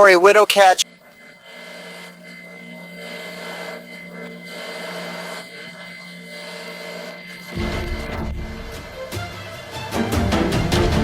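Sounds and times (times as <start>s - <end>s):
electrical hum: 0.0s - 9.7s
thin high whine: 0.0s - 10.0s.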